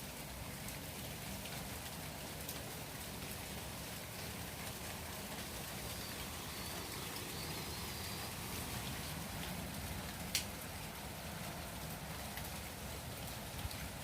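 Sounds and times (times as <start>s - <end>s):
rain on a hard surface: 0.0s - 14.0s.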